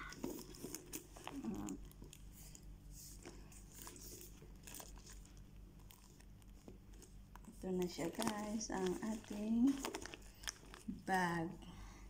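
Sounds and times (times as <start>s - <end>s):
handbag rustling and clicking: 0.0s - 10.9s.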